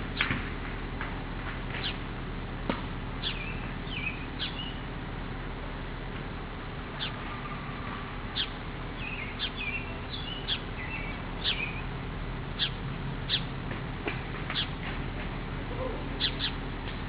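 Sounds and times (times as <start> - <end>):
birds chirping: 0.0 - 17.0
steady low background noise: 0.0 - 17.0.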